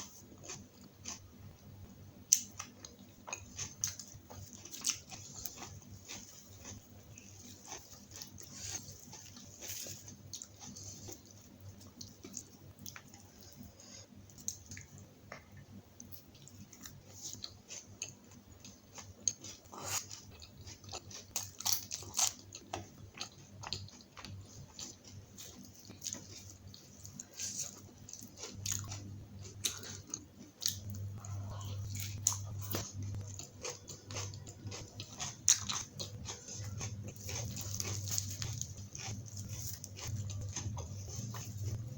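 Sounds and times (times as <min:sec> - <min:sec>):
low steady hum: 0:00.0 - 0:41.9
person chewing crunchy food: 0:00.0 - 0:41.9.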